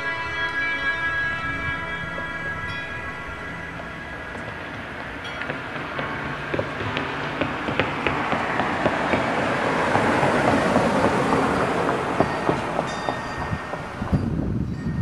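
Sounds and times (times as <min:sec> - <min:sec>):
car driving past: 0:00.0 - 0:13.2.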